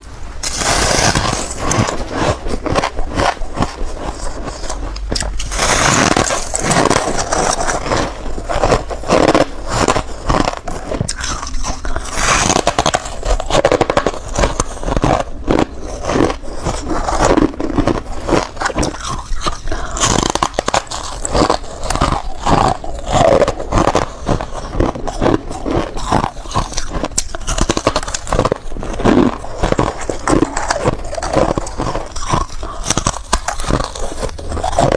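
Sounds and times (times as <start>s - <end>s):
chewing crunchy ice: 0.4s - 34.9s.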